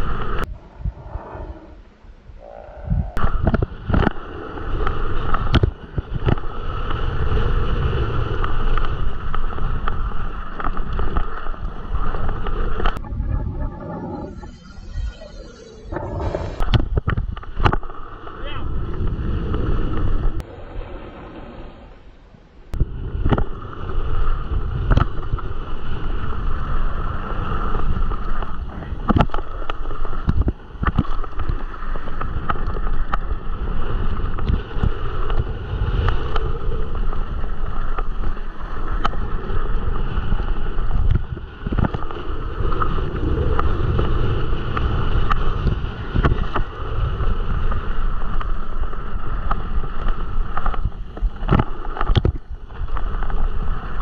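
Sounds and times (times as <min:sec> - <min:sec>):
wind on microphone: 0:00.0 - 0:22.0, 0:22.7 - 0:54.0.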